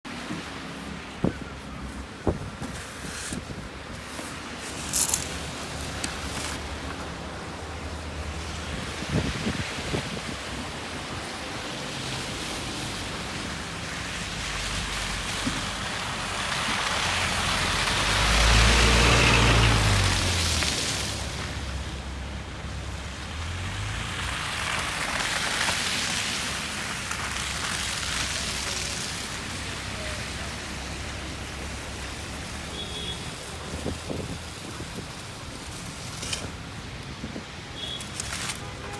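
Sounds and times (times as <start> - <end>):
tyres hissing through snow: 0.2 - 7.2, 7.8 - 38.9.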